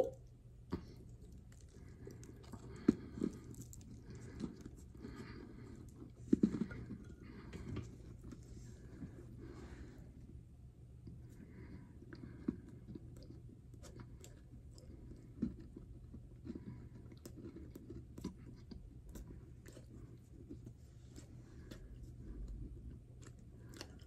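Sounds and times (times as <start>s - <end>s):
chewing with crunching clicks: 0.2s - 9.3s, 11.0s - 24.0s.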